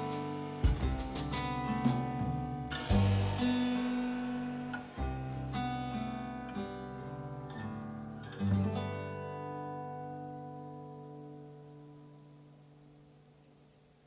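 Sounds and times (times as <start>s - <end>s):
acoustic guitar strumming chords: 0.0s - 12.4s.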